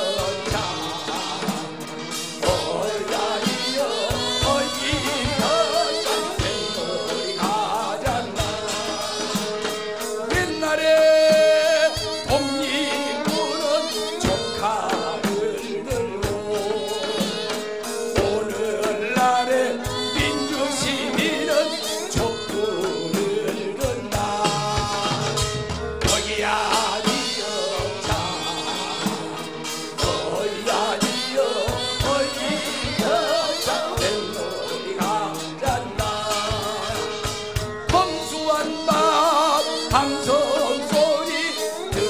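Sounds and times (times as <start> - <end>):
drum kit: 0.0 - 42.0
flute: 0.0 - 42.0
person singing: 0.0 - 42.0.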